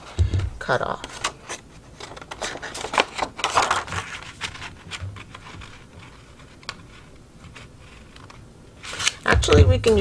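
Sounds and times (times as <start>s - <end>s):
paper rustling and scraping: 1.0s - 9.4s.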